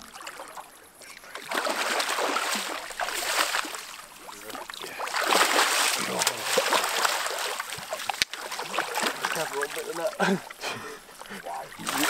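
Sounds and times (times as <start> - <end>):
fish thrashing and splashing: 0.0 - 12.0.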